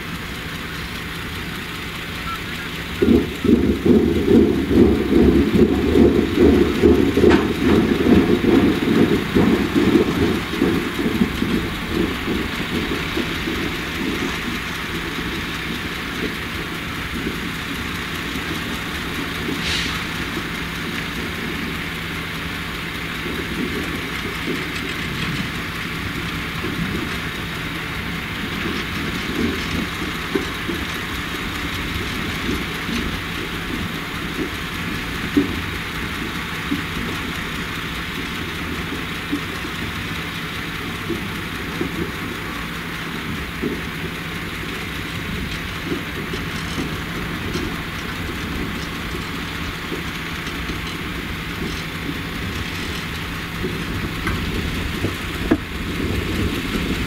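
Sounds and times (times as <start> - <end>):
distant machine engine hum: 0.0 - 57.0.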